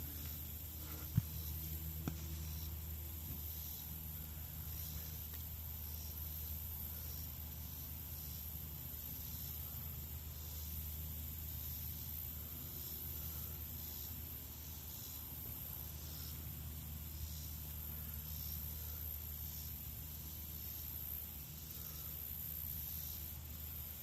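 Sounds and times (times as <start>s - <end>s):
constant high-pitched tone: 0.0s - 24.0s
outdoor background hiss: 0.0s - 24.0s.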